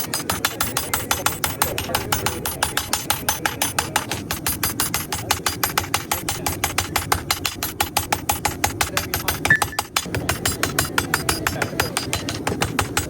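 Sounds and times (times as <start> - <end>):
power hammer striking steel: 0.0 - 13.0.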